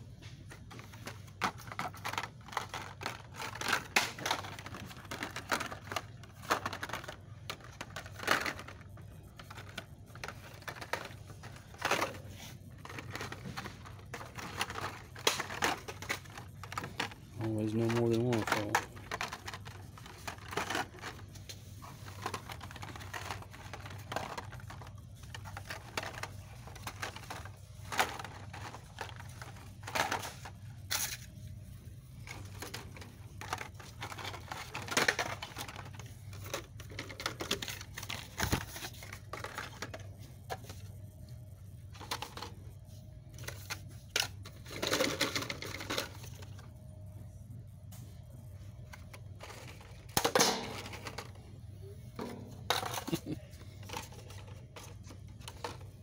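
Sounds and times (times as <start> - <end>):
toy car packs clicking and rattling: 0.6 - 31.5, 32.2 - 40.9, 41.9 - 42.6, 43.3 - 46.7, 48.8 - 56.0.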